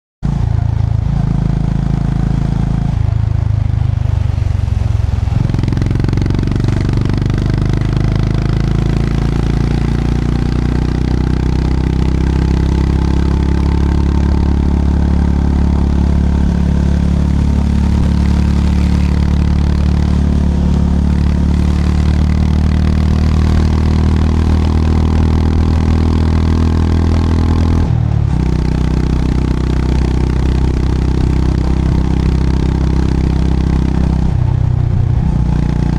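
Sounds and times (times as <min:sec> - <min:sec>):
motorcycle engine running: 0:00.2 - 0:35.9.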